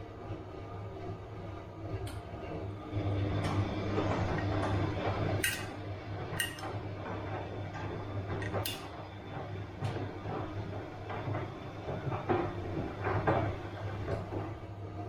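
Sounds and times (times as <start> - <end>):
washing machine drum churning: 0.0 - 15.0.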